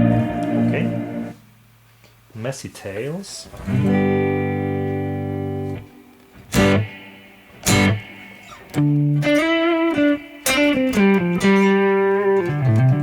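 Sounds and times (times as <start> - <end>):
electric guitar with reverb: 0.0 - 1.5, 3.6 - 13.0.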